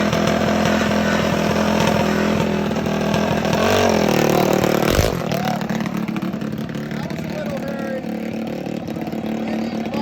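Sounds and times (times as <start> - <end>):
mini bike engine revving high: 0.0 - 10.0.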